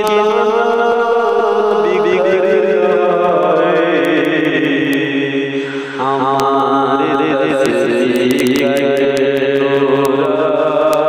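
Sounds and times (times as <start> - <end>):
person chanting: 0.0 - 11.0.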